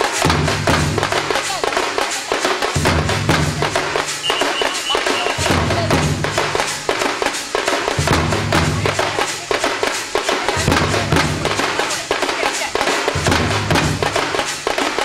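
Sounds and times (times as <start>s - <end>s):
fast sharp drum strokes: 0.0s - 15.0s.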